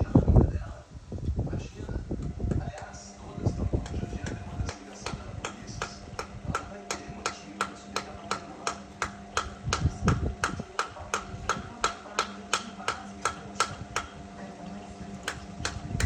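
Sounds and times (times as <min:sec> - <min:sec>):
washing machine humming: 0:02.0 - 0:16.0.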